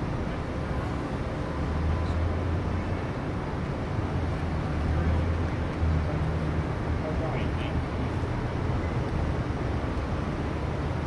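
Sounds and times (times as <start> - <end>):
city background rumble: 0.0 - 11.0.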